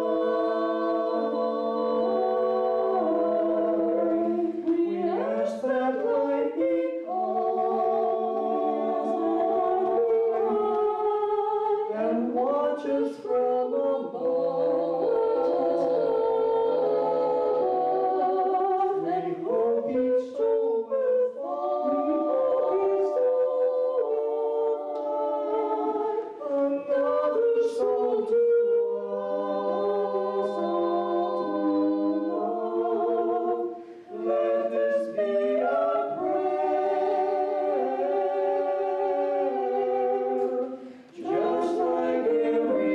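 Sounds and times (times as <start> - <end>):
voices singing in harmony: 0.0 - 42.9.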